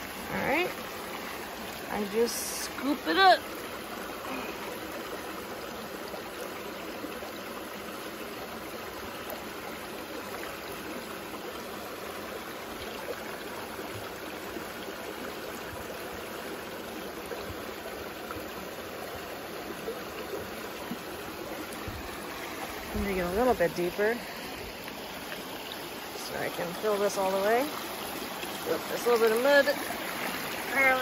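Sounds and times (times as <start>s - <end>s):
stream trickling over rocks: 0.0s - 31.0s.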